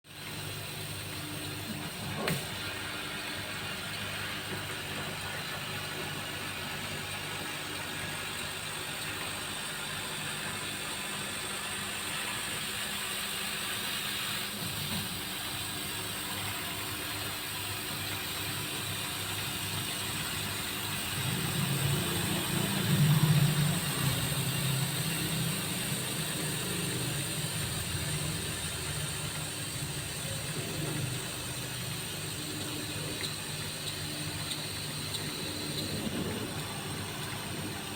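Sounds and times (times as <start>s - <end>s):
laser cutter motors and fans whirring: 0.1s - 37.9s.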